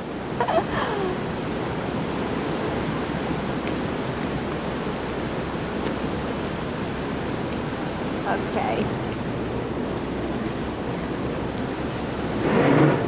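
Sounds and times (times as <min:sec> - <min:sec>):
rushing falling water: 0:00.0 - 0:13.0.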